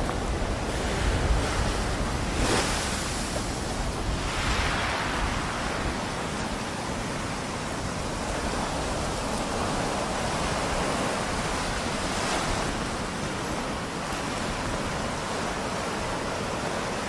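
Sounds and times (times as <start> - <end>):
surf washing onto beach: 0.0 - 17.0
wind rumble on microphone: 0.0 - 17.0.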